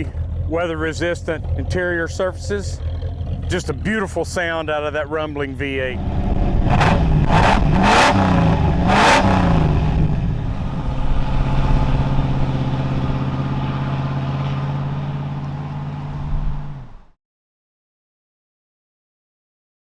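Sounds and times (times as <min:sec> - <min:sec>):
engine revving and idling: 0:00.0 - 0:17.2.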